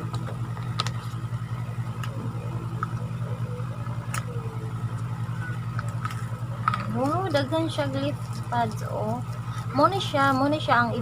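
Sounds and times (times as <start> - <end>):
low motor hum with fast pulse: 0.0 - 11.0.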